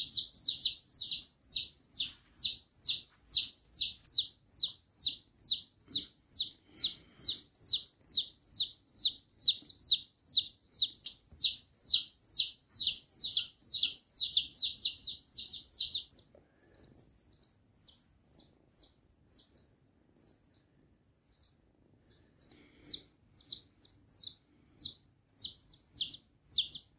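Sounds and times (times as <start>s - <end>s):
baby chicks peeping: 0.0s - 26.9s.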